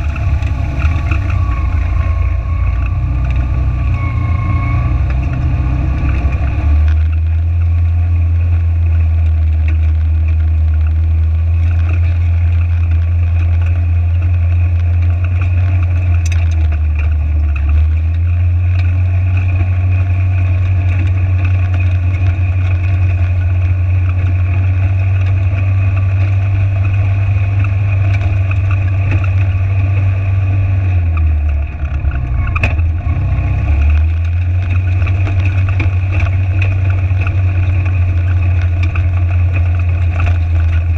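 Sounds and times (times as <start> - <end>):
engine droning: 0.0 - 40.9.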